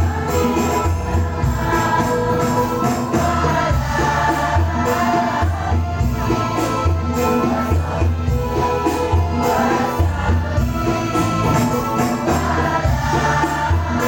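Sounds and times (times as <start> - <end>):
choir singing devotional song: 0.0 - 14.0.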